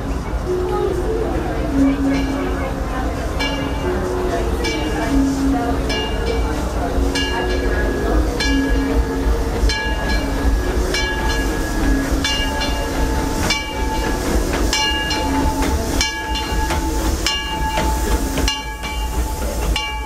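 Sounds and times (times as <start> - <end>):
locomotive bell ringing: 0.0 - 20.0
steam train rumble and hiss: 0.0 - 20.0.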